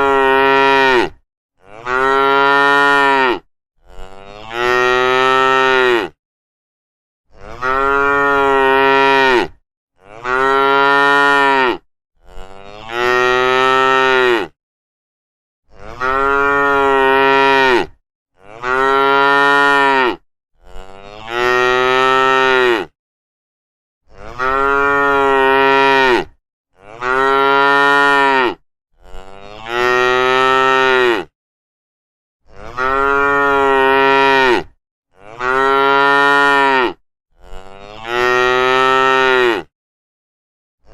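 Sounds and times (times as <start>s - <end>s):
cows mooing: 0.0s - 6.2s, 7.4s - 14.5s, 15.8s - 22.9s, 24.2s - 31.3s, 32.6s - 39.7s.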